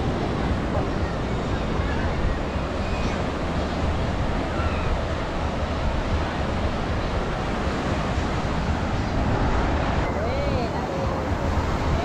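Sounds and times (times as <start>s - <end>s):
surf washing onto beach: 0.0s - 12.0s
wind rumbling on microphone: 0.0s - 12.0s.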